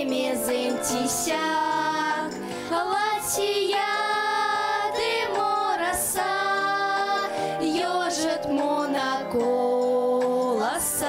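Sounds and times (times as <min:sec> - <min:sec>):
woman and girls singing folk song: 0:00.0 - 0:11.0.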